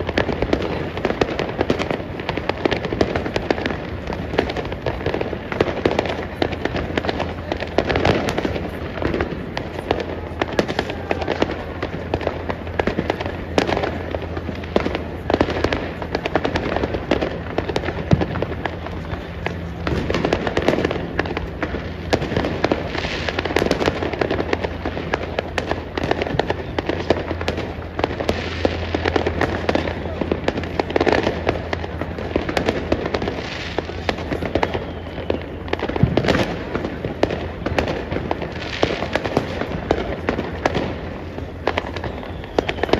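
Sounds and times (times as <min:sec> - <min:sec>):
steady low hum: 0:00.0 - 0:42.5
fireworks banging and crackling: 0:00.0 - 0:42.9.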